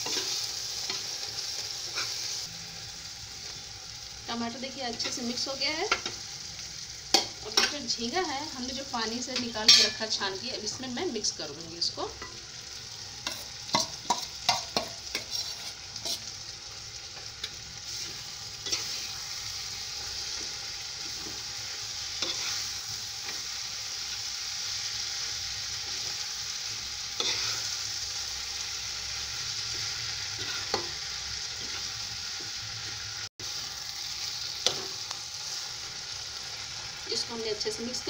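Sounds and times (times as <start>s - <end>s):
prawns sizzling in a pan: 0.0s - 38.0s
steady frying hiss: 0.0s - 38.0s.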